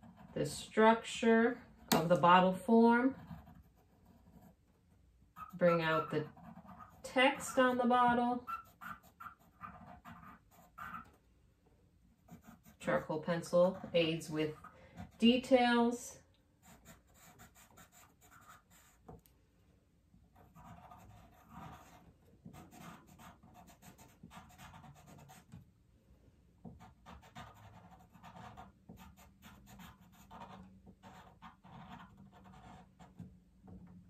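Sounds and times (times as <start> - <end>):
pencil scratching on paper: 0.0 - 11.2, 12.2 - 15.8, 16.6 - 19.2, 20.3 - 25.6, 26.7 - 33.3.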